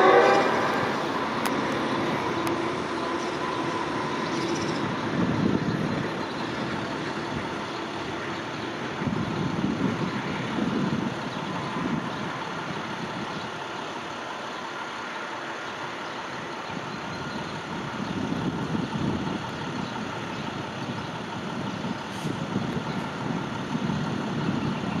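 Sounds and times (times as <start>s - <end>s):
diesel train engine rumble: 0.0s - 25.0s
train wheels rolling: 0.0s - 25.0s.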